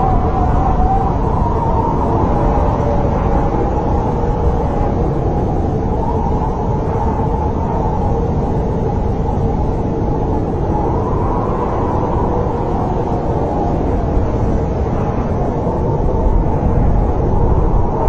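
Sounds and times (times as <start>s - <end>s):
wind blowing deep rumble: 0.0s - 18.0s.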